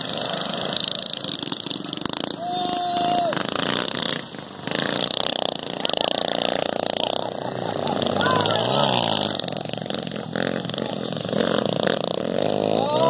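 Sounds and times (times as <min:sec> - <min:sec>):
minibike engines running: 0:00.0 - 0:13.0.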